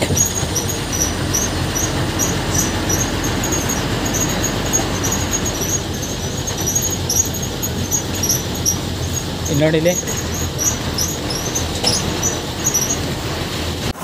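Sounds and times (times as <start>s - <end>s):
high thin squeak: 0.0s - 13.1s
bus engine and road rumble: 0.0s - 14.0s.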